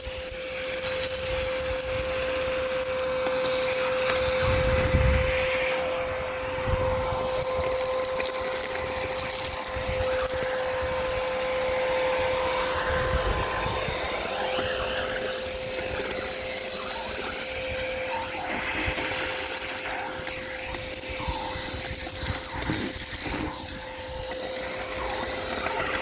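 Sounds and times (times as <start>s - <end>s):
debris rattling up vacuum hose: 0.0s - 6.0s, 7.0s - 10.9s, 12.4s - 26.0s
vacuum cleaner motor whine: 0.0s - 26.0s.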